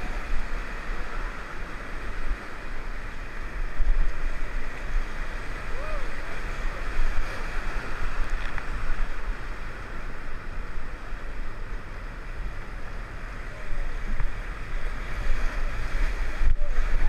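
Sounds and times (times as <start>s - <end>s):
whitewater rapids rushing: 0.0s - 17.0s
wind rumbling on microphone: 0.0s - 17.0s.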